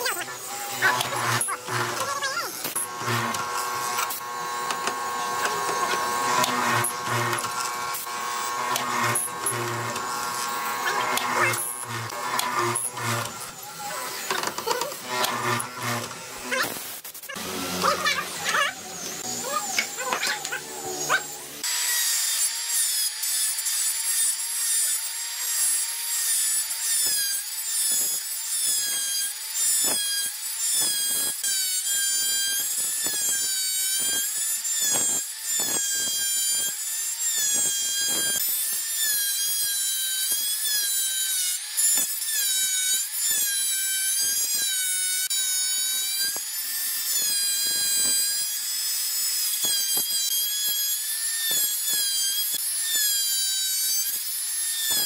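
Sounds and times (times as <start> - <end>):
router bit cutting wood: 0.0 - 55.0
router motor whine: 0.0 - 55.0.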